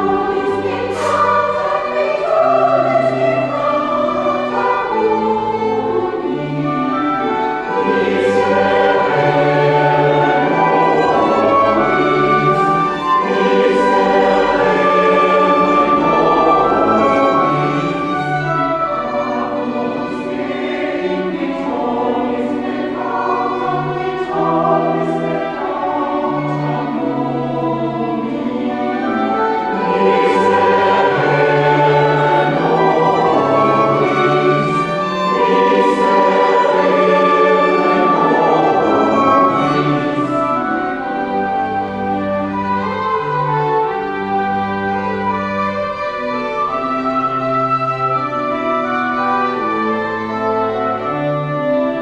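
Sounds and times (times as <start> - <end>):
church choir singing: 0.0 - 52.0
organ accompaniment: 0.0 - 52.0.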